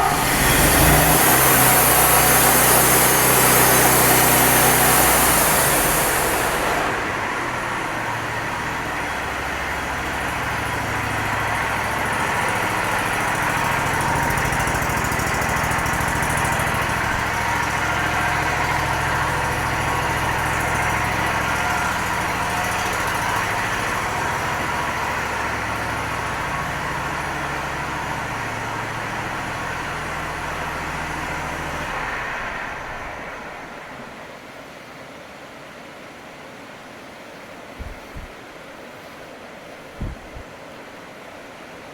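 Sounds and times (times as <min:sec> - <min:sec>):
engine running: 0:00.0 - 0:34.6, 0:37.8 - 0:38.3, 0:40.0 - 0:40.4.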